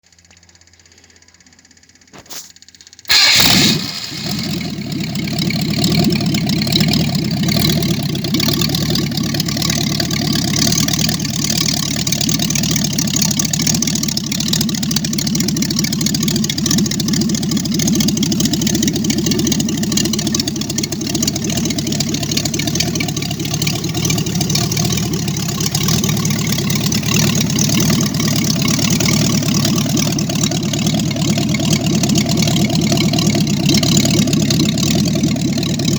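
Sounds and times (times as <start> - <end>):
car engine cranking and starting: 0.0 - 35.9.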